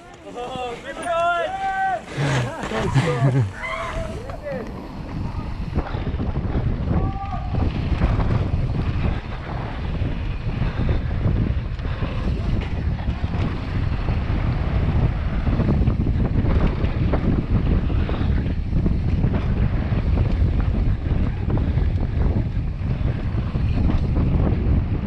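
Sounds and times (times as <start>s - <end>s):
wind rushing over microphone: 2.0s - 25.0s
bike knocks and rattles: 4.4s - 25.0s.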